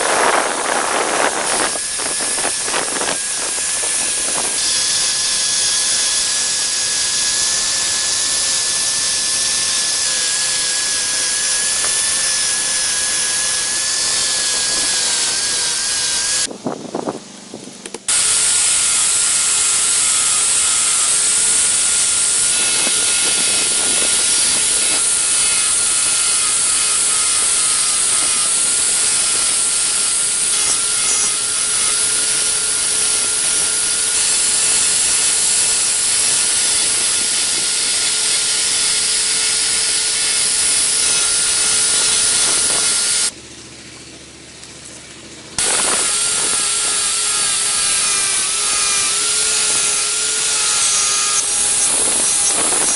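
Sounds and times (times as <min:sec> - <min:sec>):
power tool grinding: 0:00.0 - 0:16.5, 0:17.8 - 0:43.4, 0:45.6 - 0:52.9.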